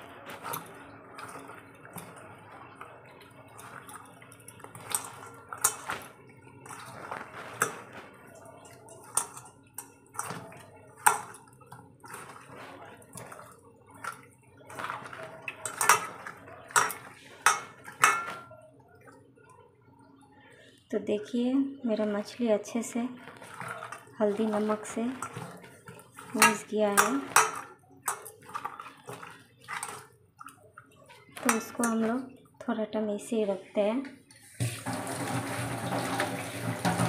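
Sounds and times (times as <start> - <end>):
hand mixing fish in steel bowl: 0.0 - 20.1, 21.0 - 37.0.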